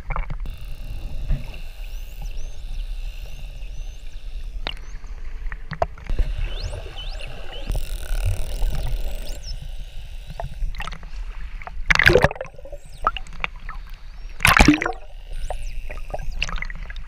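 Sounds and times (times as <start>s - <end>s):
water rumbling against camera: 0.0s - 17.0s.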